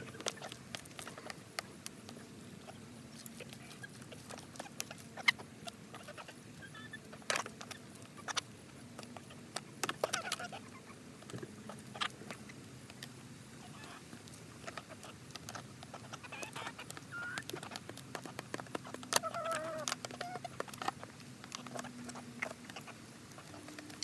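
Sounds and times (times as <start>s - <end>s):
beaks tapping on foil: 0.0s - 24.0s
hens clucking: 0.0s - 24.0s.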